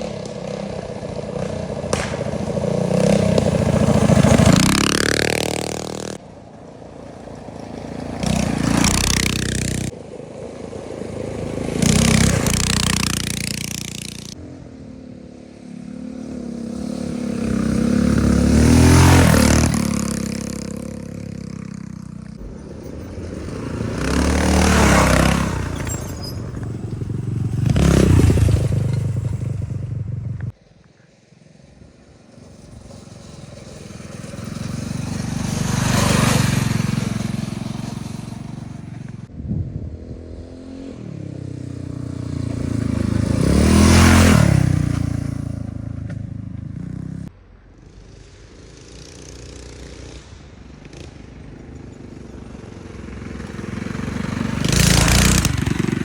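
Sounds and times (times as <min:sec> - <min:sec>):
minibike engines passing: 0:00.0 - 0:56.0.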